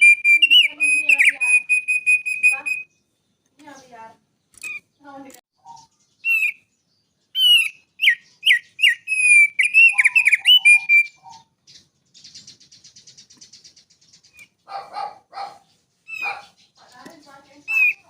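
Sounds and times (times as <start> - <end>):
bird whistled song: 0.0 - 3.9, 4.5 - 5.0, 5.6 - 18.0
buzzy bird trill: 0.0 - 18.0.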